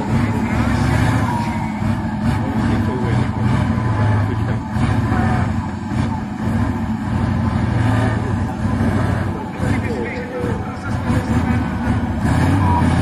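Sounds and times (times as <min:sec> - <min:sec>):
diesel truck engine straining: 0:00.0 - 0:13.0.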